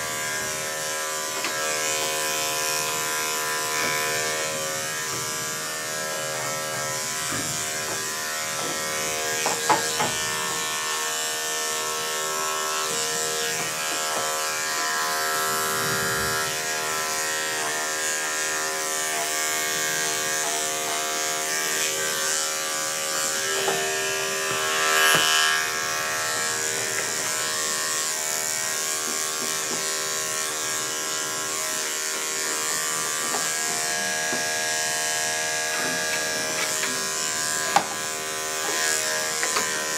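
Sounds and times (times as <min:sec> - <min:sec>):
electric clippers humming: 0:00.0 - 0:39.9.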